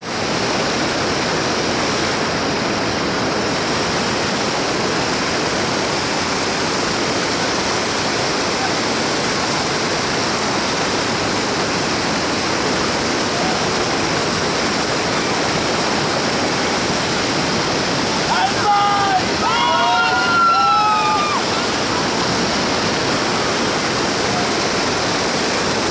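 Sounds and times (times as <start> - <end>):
river whitewater rushing: 0.0 - 25.9.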